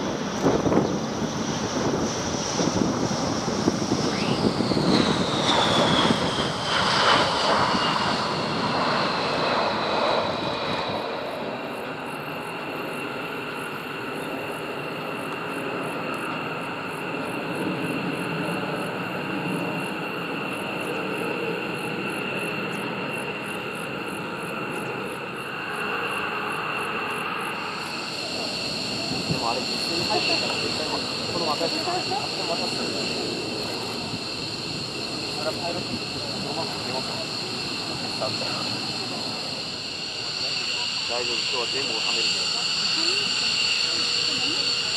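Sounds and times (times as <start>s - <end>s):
jet engine whine: 0.0s - 44.9s.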